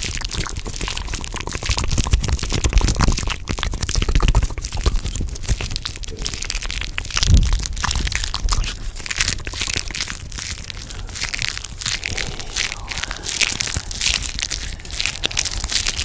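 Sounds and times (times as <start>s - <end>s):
crackling and crunching: 0.0s - 16.0s.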